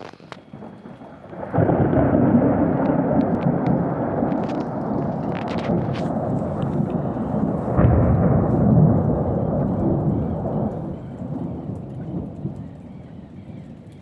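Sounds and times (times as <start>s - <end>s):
rain falling: 0.0s - 14.0s
thunder crack and rumble: 0.0s - 14.0s.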